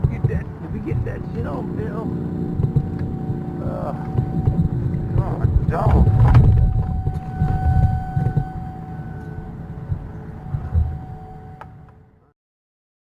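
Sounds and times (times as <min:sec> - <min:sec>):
wind rumbling: 0:00.0 - 0:11.9
faint steady tone: 0:00.4 - 0:12.3.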